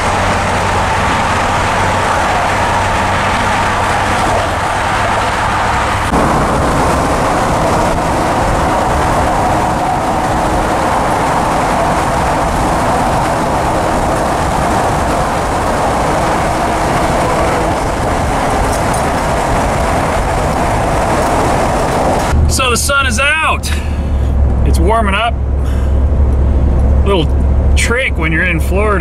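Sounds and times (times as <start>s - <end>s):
road and engine noise in van: 0.0s - 29.0s.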